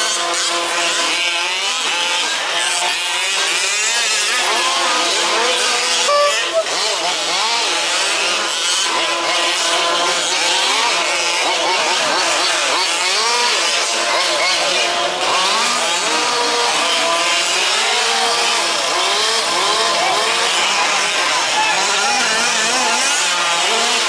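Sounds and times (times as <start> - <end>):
small engines revving and whining: 0.0 - 24.0.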